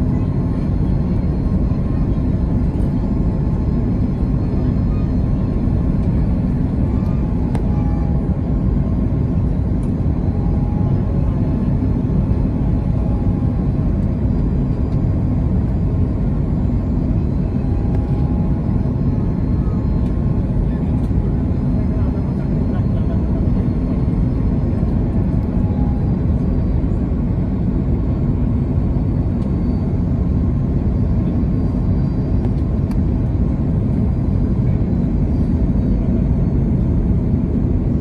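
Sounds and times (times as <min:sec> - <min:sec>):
jet engine cabin noise: 0:00.0 - 0:38.0.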